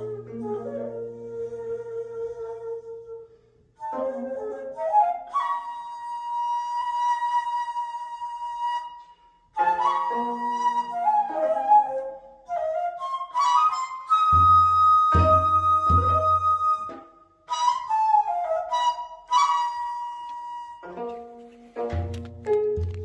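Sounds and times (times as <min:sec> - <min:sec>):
bamboo flute melody: 0:00.0 - 0:23.0.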